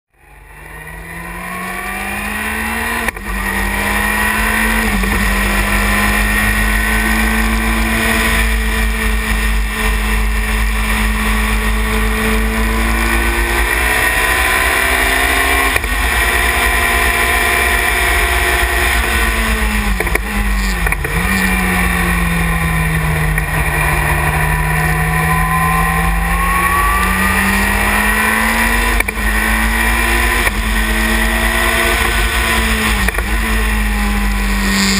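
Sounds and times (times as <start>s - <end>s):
racing car engine accelerating: 0.1s - 34.9s
wind and road rumble: 0.3s - 34.9s.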